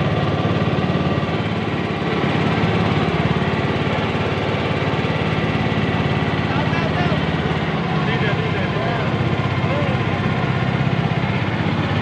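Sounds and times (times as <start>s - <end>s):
boat engine chugging: 0.0s - 12.0s.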